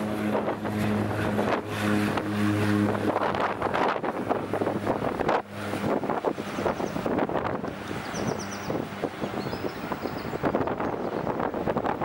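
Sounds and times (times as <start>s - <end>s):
turboprop engines humming: 0.0s - 12.0s
wind buffeting microphone: 0.0s - 12.0s.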